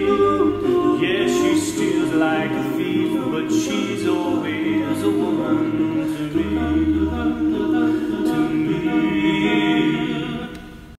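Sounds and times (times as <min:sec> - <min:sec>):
a cappella harmony singing: 0:00.0 - 0:11.0.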